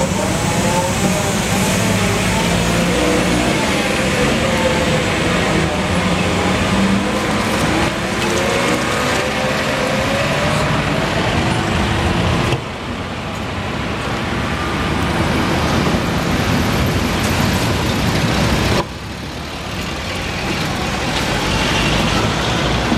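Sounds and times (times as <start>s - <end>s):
road traffic: 0.0s - 22.9s.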